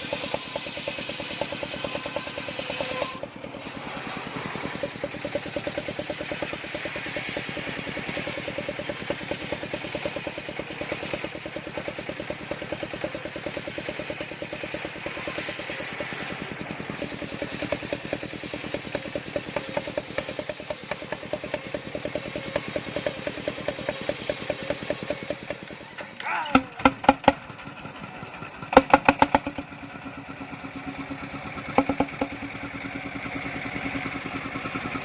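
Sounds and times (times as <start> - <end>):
sawmill engine chugging: 0.0 - 35.0.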